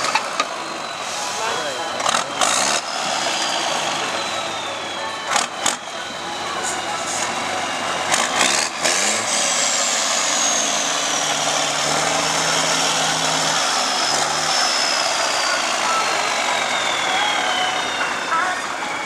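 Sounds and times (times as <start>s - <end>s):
truck diesel engine under load: 0.0s - 19.0s.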